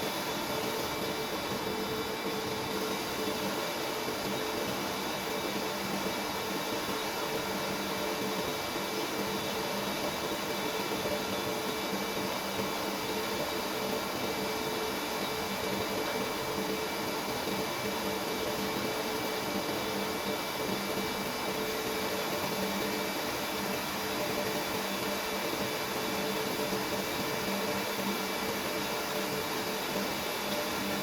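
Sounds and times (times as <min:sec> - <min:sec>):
mechanical hum and whir: 0:00.0 - 0:31.0.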